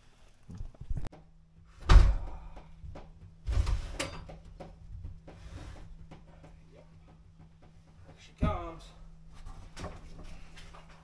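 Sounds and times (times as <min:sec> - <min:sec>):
clattering knocks and scraping: 0:00.4 - 0:11.0.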